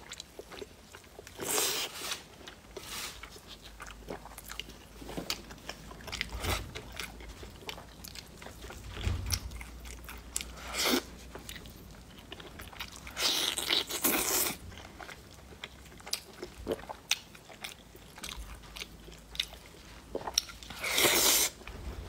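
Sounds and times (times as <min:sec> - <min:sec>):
biting and chewing food: 0:00.0 - 0:22.0.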